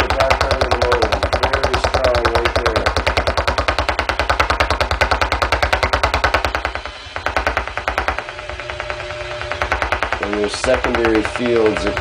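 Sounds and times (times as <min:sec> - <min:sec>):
rapid radio clicking pulses: 0:00.0 - 0:12.0.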